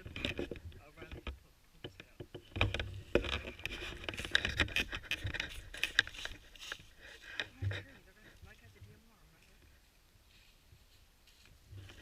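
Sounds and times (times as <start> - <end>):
crunching and rustling: 2.0 - 12.0.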